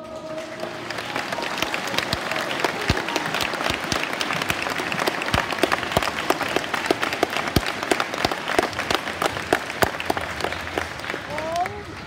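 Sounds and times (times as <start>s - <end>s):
audience applauding: 0.0s - 12.0s
loud claps close by: 0.0s - 12.0s.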